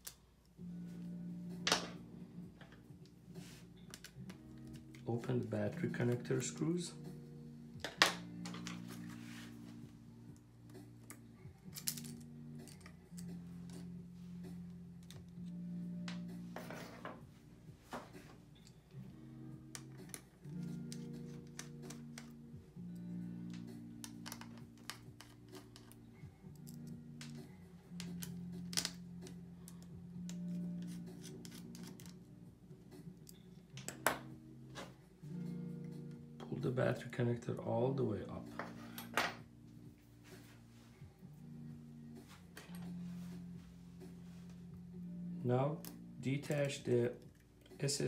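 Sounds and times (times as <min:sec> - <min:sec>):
soft guitar music: 0:00.6 - 0:48.0.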